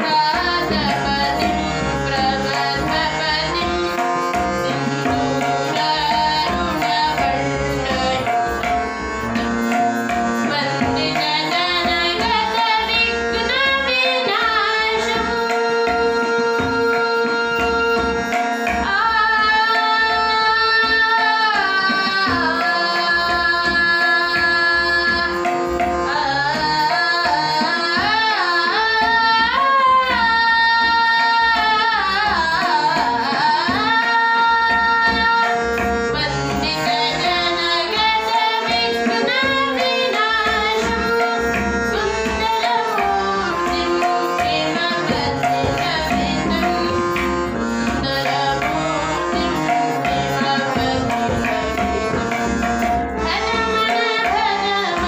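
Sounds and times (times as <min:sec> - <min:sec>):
boy singing devotional song: 0:00.0 - 0:55.0
harmonium: 0:00.0 - 0:55.0
tabla playing steady rhythm: 0:00.0 - 0:55.0.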